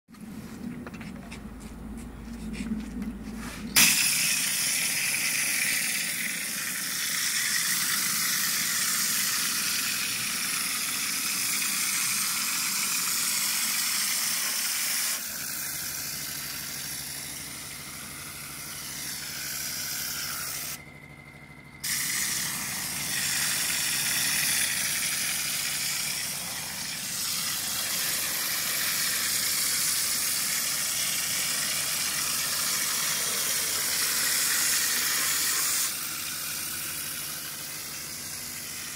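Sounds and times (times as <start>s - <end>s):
spray gun air hissing: 3.7s - 20.8s, 21.8s - 38.9s.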